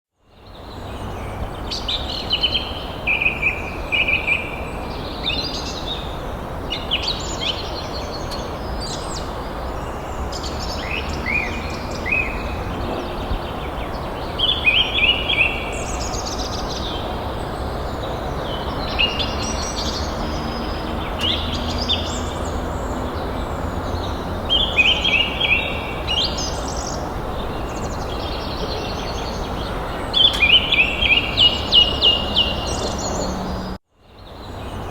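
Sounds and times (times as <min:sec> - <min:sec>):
songbirds chirping: 0:00.2 - 0:34.9.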